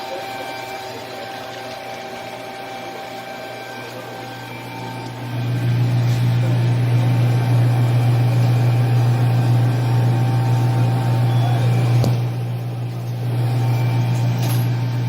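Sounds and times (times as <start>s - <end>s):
refrigerator compressor hum: 0.0s - 15.0s.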